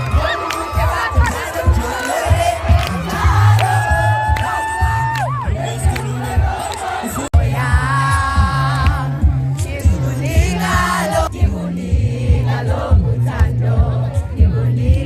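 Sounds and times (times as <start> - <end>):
pulsing bass beat: 0.0 - 15.0
voices singing in harmony: 0.0 - 15.0.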